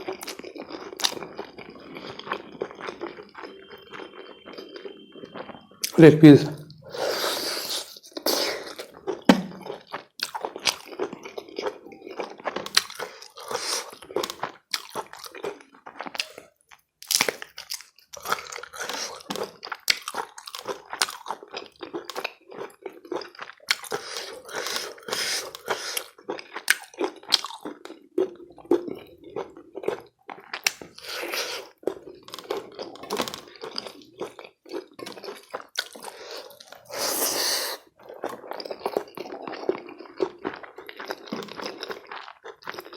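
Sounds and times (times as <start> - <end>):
person chewing food: 0.0 - 6.0, 6.7 - 42.9.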